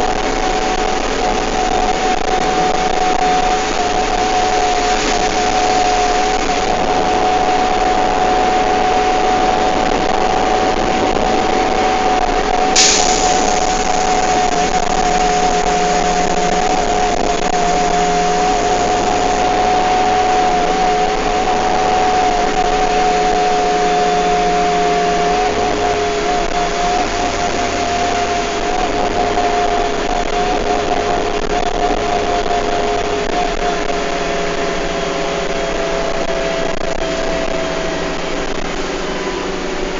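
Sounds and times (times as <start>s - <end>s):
bus drivetrain and road noise: 0.0s - 39.9s
two-note whine: 0.0s - 39.9s.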